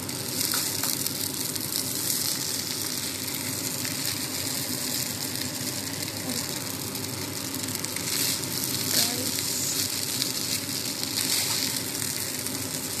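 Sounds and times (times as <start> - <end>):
rice sizzling in a hot pot: 0.0 - 13.0.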